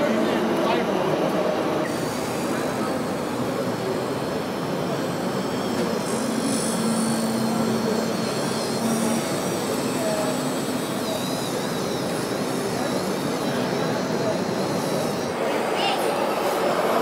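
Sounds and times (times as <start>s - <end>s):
thin high whine: 1.8s - 17.0s.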